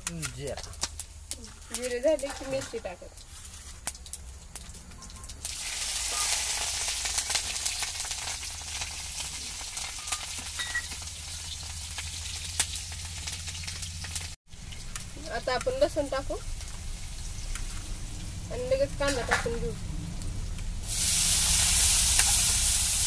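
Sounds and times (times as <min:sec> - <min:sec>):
chillies sizzling in hot oil: 0:00.0 - 0:23.0.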